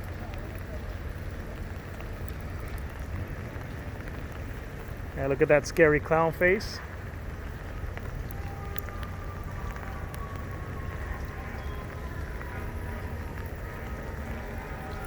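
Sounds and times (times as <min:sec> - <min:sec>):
light rain falling: 0:00.0 - 0:15.0
raindrop ticks: 0:00.0 - 0:15.0
steady low rumble: 0:00.0 - 0:15.0.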